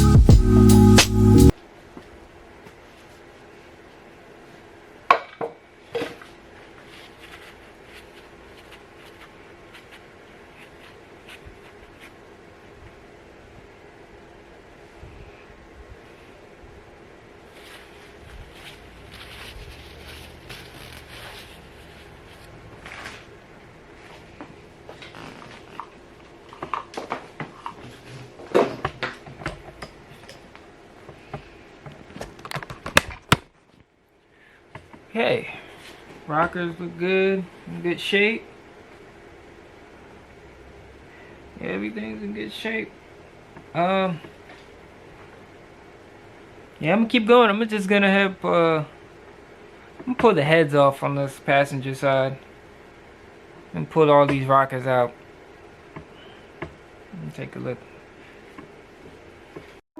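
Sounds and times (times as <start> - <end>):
steady hum: 0.0 - 59.8.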